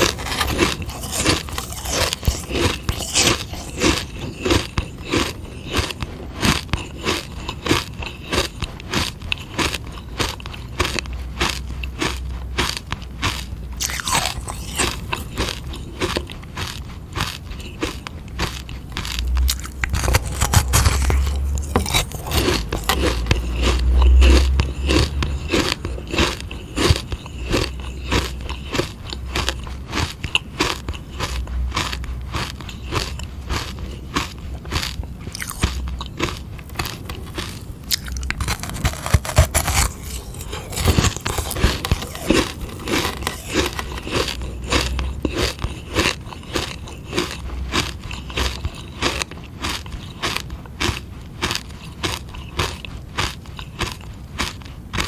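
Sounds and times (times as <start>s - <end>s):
crunching ice pop: 0.0s - 55.0s.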